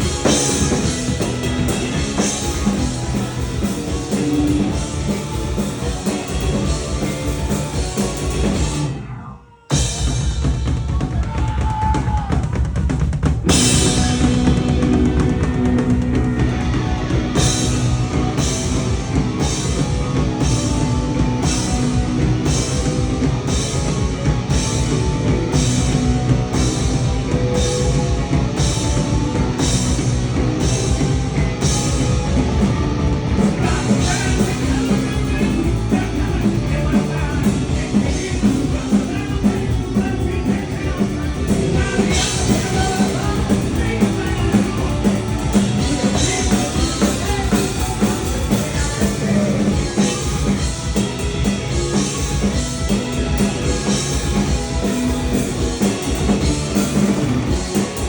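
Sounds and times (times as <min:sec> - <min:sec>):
punk rock band playing: 0:00.0 - 0:58.0.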